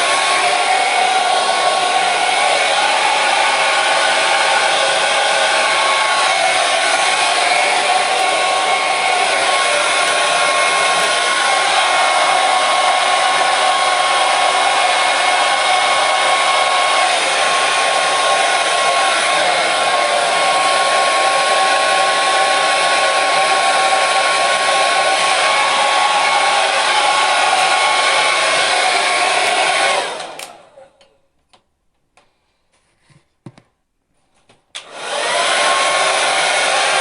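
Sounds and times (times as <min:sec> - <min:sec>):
hair dryer blowing: 0:00.0 - 0:31.0, 0:34.8 - 0:37.0.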